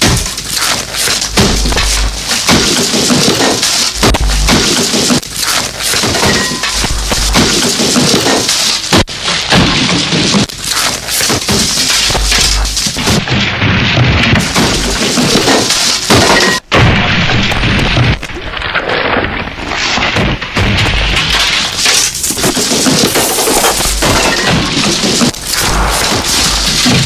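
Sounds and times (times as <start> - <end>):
clattering impacts: 0.0 - 27.0.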